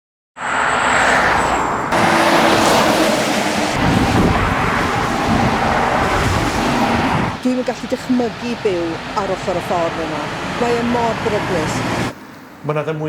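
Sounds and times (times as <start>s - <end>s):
road traffic rushing past: 0.4s - 13.0s.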